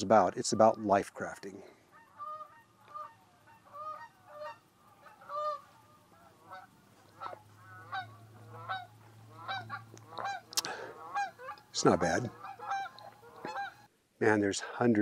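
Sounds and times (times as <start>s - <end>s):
geese honking: 0.2s - 13.9s.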